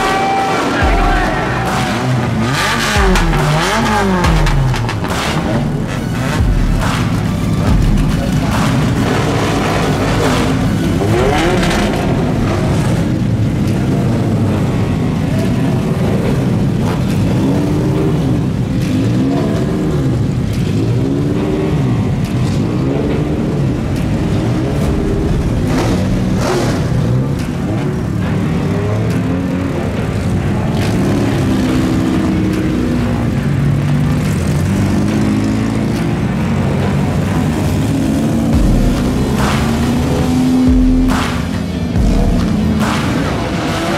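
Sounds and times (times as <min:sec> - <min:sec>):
race car engines idling and revving: 0:00.0 - 0:43.9.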